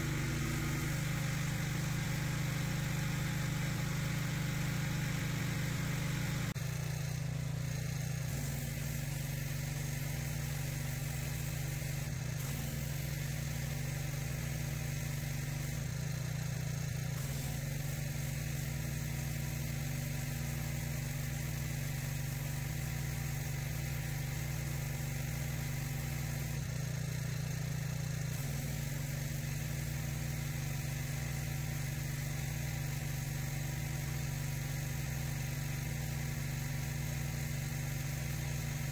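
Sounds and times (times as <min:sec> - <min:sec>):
high-pressure spray hissing on concrete: 0:00.0 - 0:38.9
pressure washer engine drone: 0:00.0 - 0:38.9.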